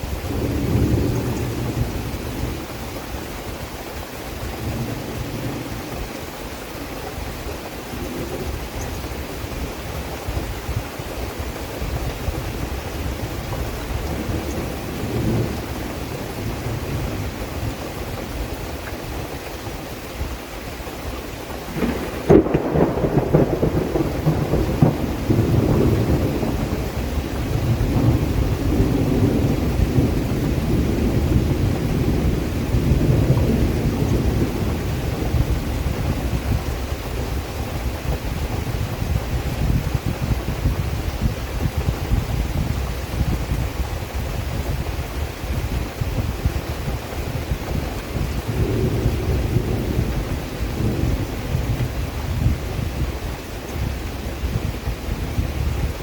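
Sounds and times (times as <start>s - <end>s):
steady rain falling: 0.0s - 56.0s
thunderclap rolling rumble: 0.0s - 56.0s.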